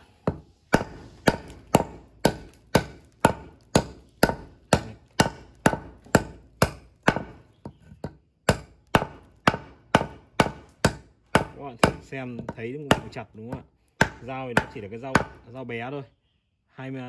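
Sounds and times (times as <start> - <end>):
knife chopping on wooden block: 0.0 - 15.4.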